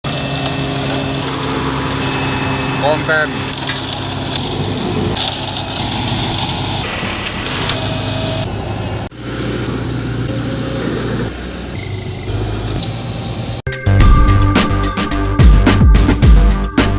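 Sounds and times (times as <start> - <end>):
heavy diesel engine running: 0.0 - 16.6.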